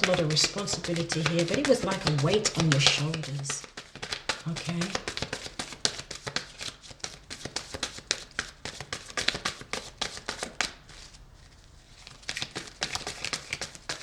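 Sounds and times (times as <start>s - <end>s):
cards being shuffled: 0.0s - 14.0s.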